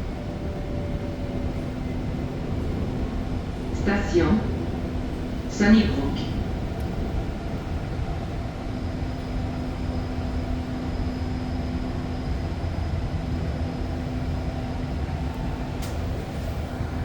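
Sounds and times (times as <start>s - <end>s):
train interior rumble and hum: 0.0s - 17.0s.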